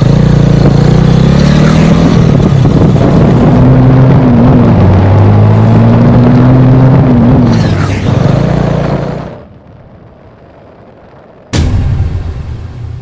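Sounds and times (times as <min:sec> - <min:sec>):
motorcycle engine and exhaust: 0:00.0 - 0:13.0.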